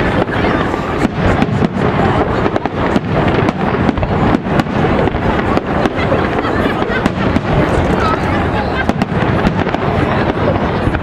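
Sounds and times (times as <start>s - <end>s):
continuous rumble: 0.0s - 11.0s
fireworks bangs: 0.0s - 11.0s.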